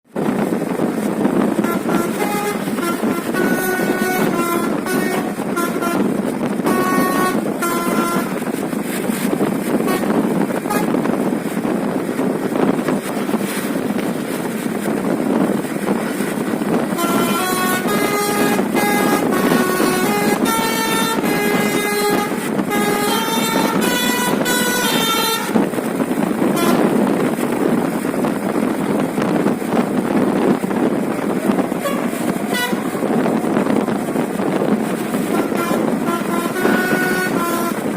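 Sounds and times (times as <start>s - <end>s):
steady rumbling noise: 0.0s - 37.9s
bus horn playing melodic runs: 1.5s - 11.8s, 15.7s - 37.9s.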